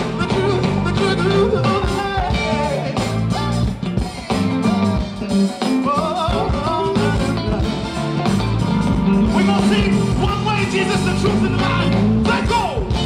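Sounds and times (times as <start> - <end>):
person singing: 0.0 - 3.5, 4.3 - 8.0, 9.2 - 13.0
live gospel band playing: 0.0 - 13.0.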